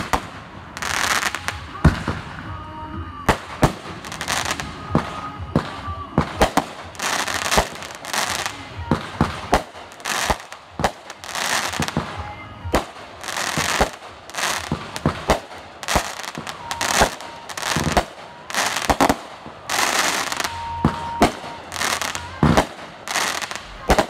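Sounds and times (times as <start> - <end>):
fireworks bangs: 0.0 - 24.0
fireworks hissing: 0.0 - 24.0.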